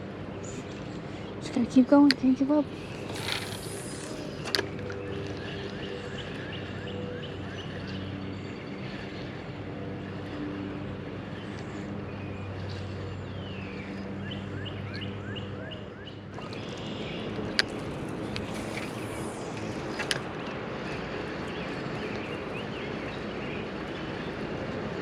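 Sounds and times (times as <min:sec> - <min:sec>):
engine-like drone: 0:00.0 - 0:25.0.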